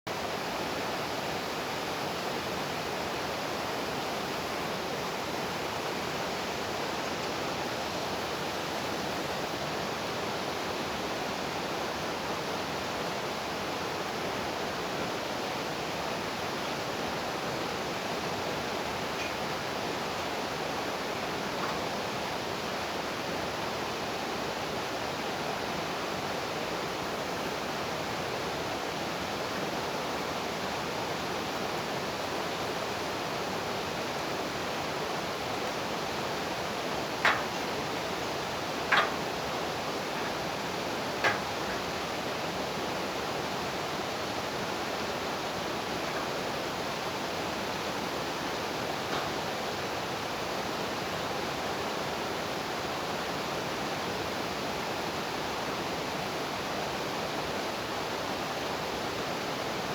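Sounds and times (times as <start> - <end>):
stream flowing: 0.1 - 59.9.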